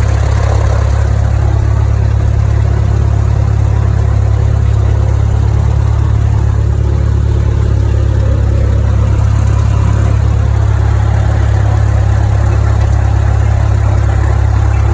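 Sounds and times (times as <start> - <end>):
light aircraft engine droning: 0.0 - 14.9.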